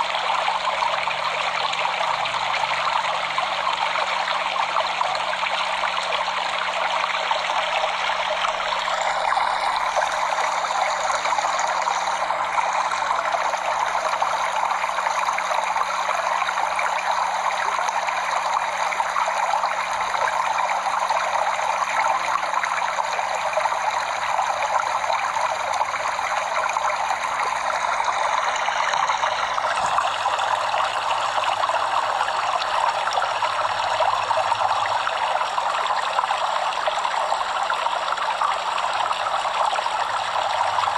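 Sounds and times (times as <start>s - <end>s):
stream water flowing over rocks: 0.0s - 40.9s.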